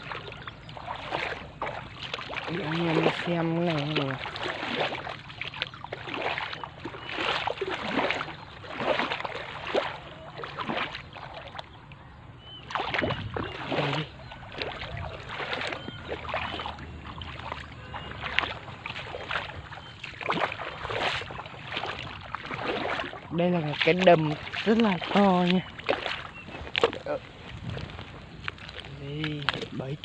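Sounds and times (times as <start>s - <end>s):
footsteps through dry grass: 0.0s - 11.6s, 12.7s - 30.0s.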